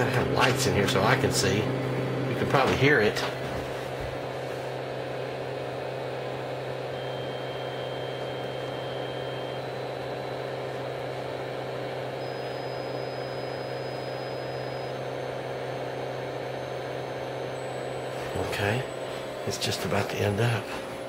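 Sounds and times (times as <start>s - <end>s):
sine test tone stepping up: 0.0s - 21.0s.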